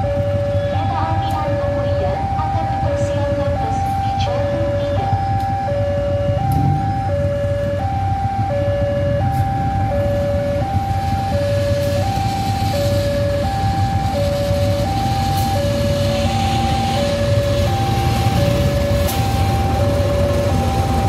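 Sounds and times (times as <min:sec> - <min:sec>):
locomotive engine rumble: 0:00.0 - 0:21.0
two-tone warning alarm: 0:00.0 - 0:21.0.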